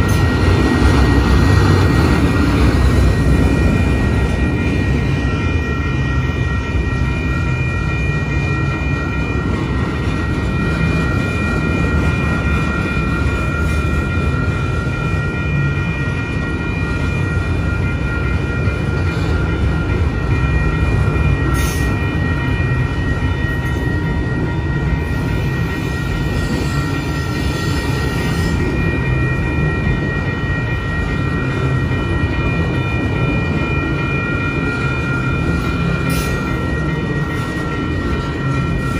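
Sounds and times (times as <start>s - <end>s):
high-pitched ringing tones: 0.0s - 38.9s
train wheels rumbling on rails: 0.0s - 38.9s.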